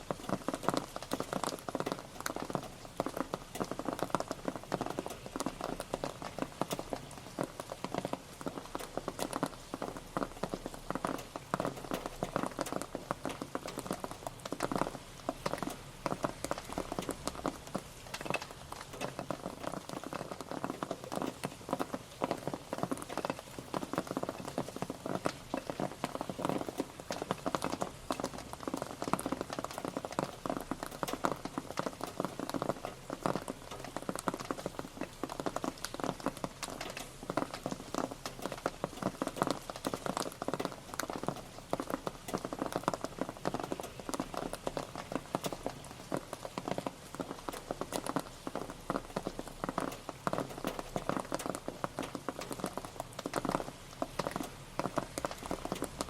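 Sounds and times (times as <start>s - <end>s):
rain drops pattering: 0.0s - 56.0s
rain hiss: 0.0s - 56.0s.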